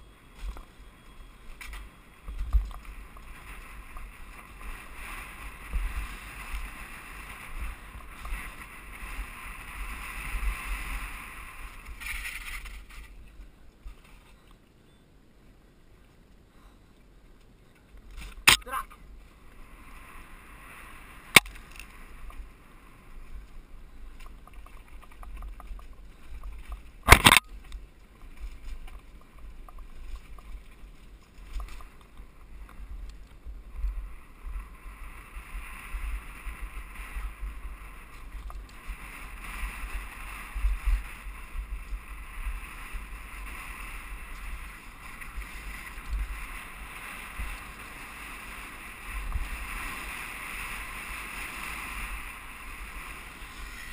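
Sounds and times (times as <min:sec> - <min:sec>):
bike rattling over stones: 0:00.0 - 0:14.4, 0:21.2 - 0:53.9
wind rumbling on microphone: 0:00.0 - 0:14.4, 0:17.1 - 0:53.9.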